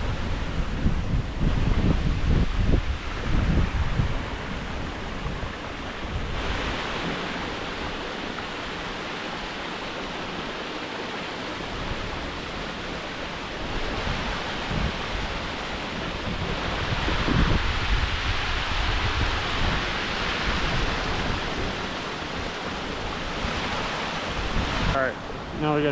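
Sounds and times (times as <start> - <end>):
waterfall roaring: 0.0 - 25.9
wind buffeting microphone: 0.0 - 25.9.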